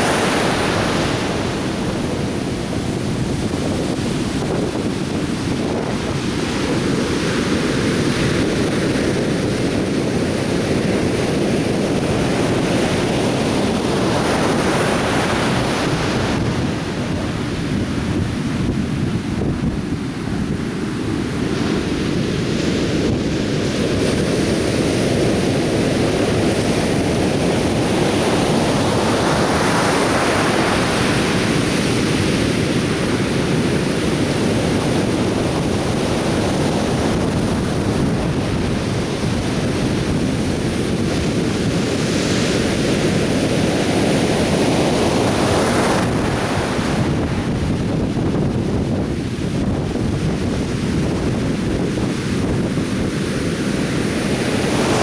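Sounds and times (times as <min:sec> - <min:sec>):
surf breaking on a beach: 0:00.0 - 0:55.0.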